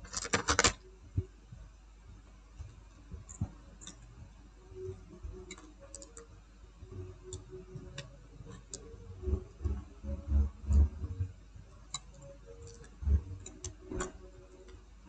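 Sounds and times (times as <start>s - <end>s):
light clicks and ticks: 0.0s - 14.9s
faint low hum: 0.0s - 15.0s.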